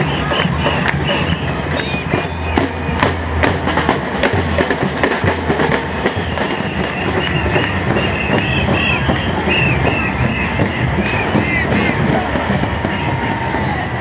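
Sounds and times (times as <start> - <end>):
drums beaten: 0.0 - 14.0.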